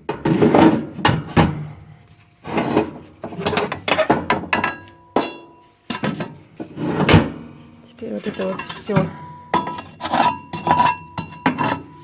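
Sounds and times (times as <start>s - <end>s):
fireplace parts knocking and clattering: 0.0s - 12.0s.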